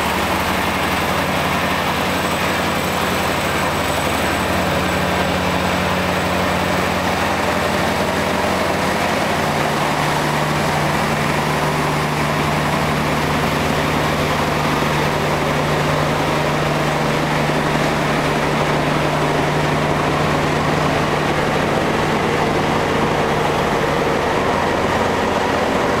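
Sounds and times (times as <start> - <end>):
truck diesel engines under load: 0.0 - 26.0.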